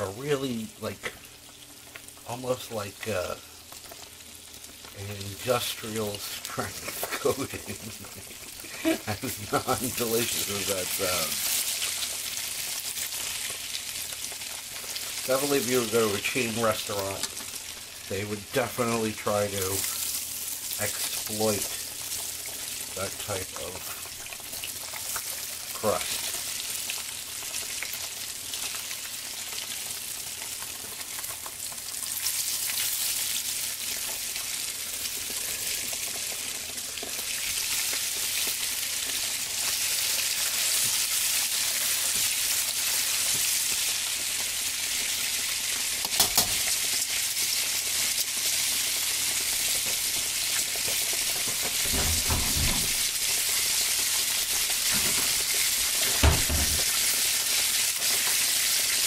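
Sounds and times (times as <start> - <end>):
cutlet sizzling in hot oil: 0.0 - 59.0.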